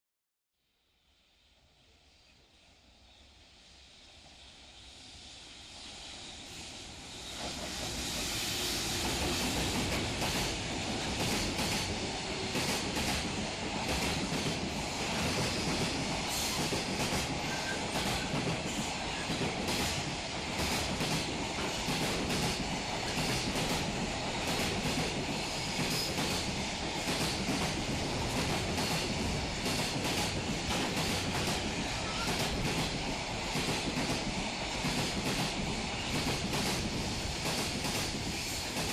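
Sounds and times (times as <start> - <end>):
freight train passing: 2.1 - 38.9
train wheels clacking over rail joints: 7.2 - 38.9.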